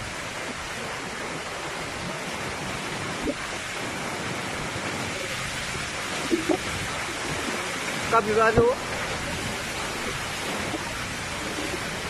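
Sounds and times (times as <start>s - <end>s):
heavy rain: 0.0s - 12.0s
strong wind: 0.0s - 12.0s.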